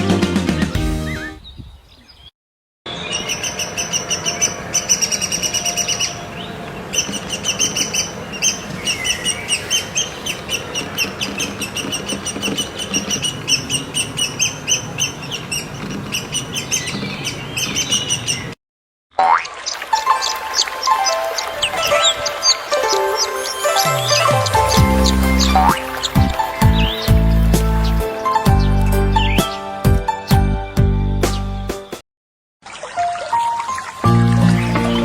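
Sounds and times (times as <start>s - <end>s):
birds chirping: 0.6s - 2.3s, 2.9s - 18.6s, 19.6s - 32.0s, 32.7s - 35.0s.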